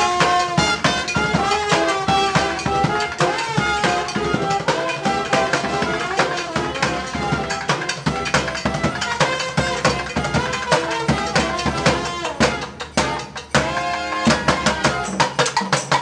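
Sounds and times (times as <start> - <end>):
brass band playing: 0.0 - 16.0
drum and bucket-drum percussion: 0.0 - 16.0.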